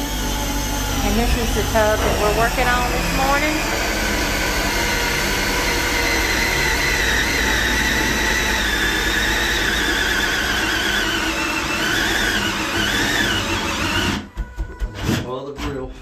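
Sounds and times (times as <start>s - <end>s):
motor whining: 0.0s - 15.3s.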